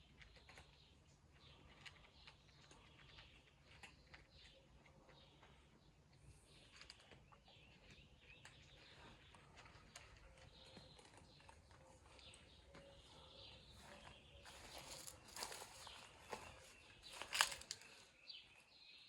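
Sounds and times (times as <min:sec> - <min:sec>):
cats chewing and crunching: 0:00.0 - 0:18.3.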